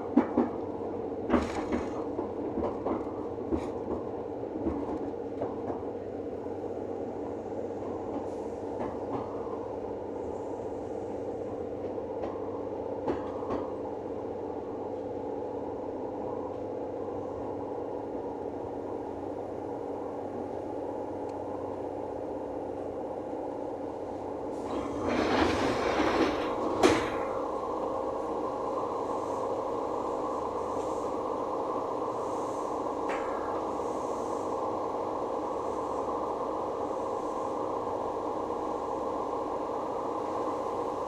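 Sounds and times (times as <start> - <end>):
train equipment humming: 0.0 - 41.0.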